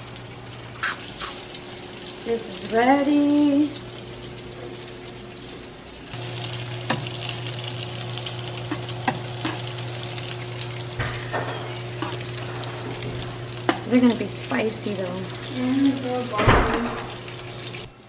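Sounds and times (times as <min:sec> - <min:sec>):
dumplings sizzling in oil: 0:00.0 - 0:18.0.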